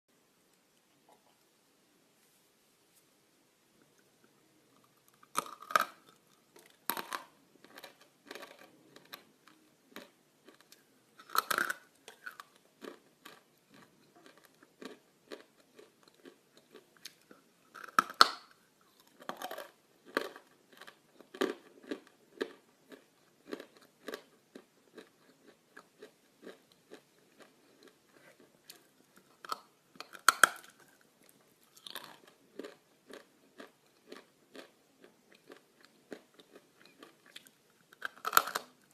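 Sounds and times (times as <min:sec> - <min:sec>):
crisp crunching chews: 0:04.8 - 0:38.9.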